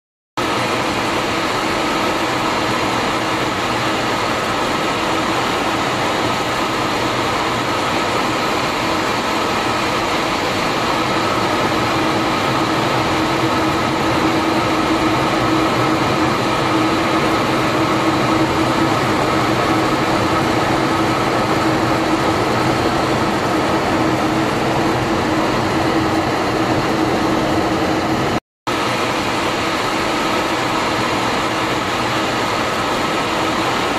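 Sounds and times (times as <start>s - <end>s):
constant cockpit hum: 0.4s - 33.9s
jet engine and airflow rush: 0.4s - 33.9s.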